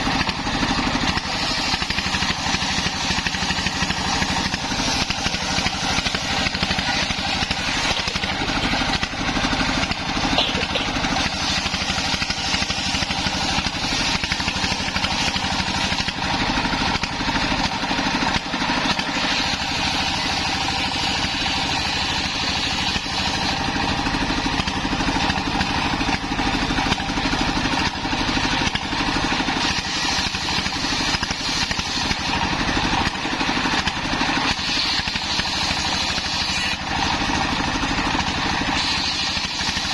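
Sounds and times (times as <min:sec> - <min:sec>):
circular saw cutting wood: 0:00.0 - 0:39.9
diesel engine running: 0:00.0 - 0:39.9.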